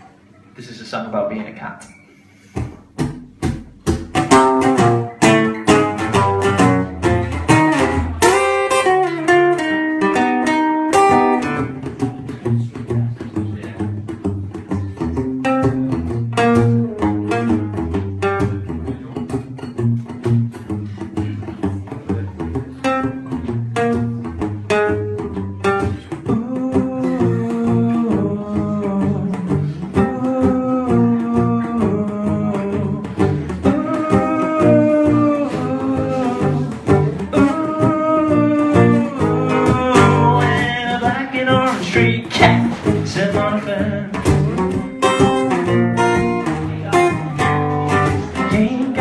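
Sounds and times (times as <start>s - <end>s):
acoustic guitar rockabilly tune: 0.0s - 49.0s.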